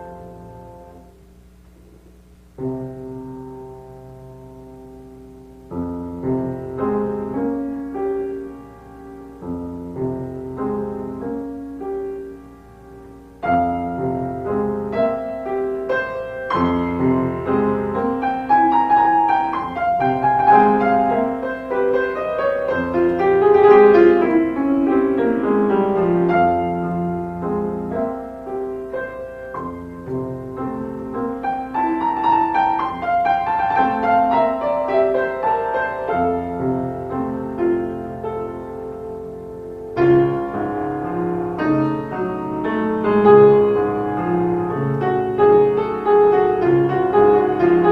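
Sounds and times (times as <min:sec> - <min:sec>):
background piano music: 0:00.0 - 0:01.4, 0:02.4 - 0:47.9.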